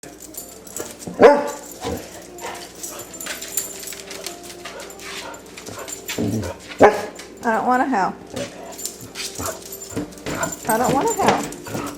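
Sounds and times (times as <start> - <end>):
dog baying: 0.8 - 7.4, 8.2 - 11.9.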